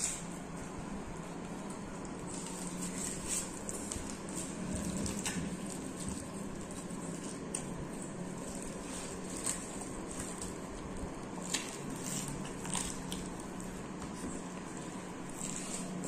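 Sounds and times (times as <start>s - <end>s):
steady background hum: 0.0s - 16.0s
tearing bread by hand: 2.0s - 16.0s
chewing: 2.2s - 16.0s.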